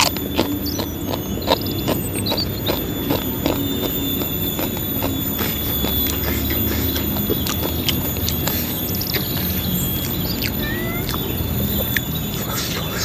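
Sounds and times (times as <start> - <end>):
chewing crunchy fried food: 0.0 - 13.0.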